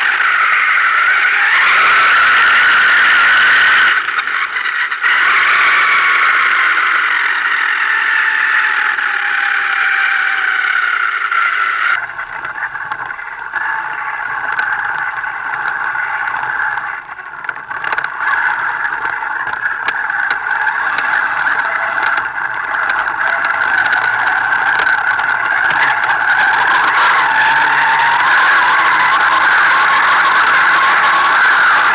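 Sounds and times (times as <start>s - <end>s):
rc car motor whining: 0.0s - 31.9s.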